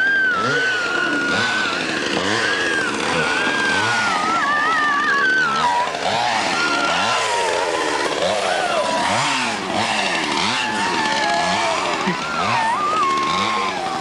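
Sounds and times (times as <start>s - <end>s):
chainsaw engine revving: 0.0s - 14.0s
high wavering whine: 0.0s - 14.0s.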